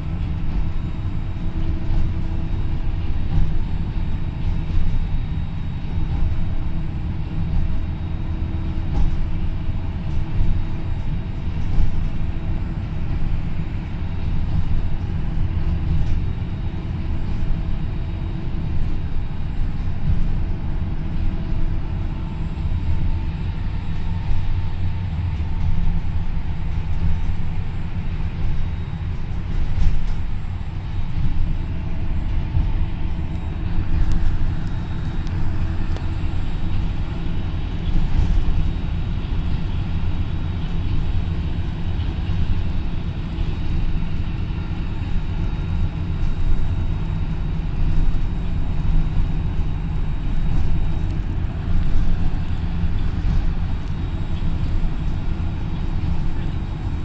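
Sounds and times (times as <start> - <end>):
vehicle rumble inside cabin: 0.0 - 57.0.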